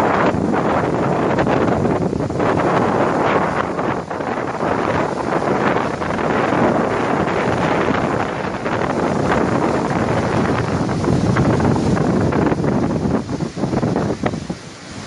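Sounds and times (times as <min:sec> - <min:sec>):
heavy surf breaking: 0:00.0 - 0:15.0
strong wind buffeting microphone: 0:00.0 - 0:15.0.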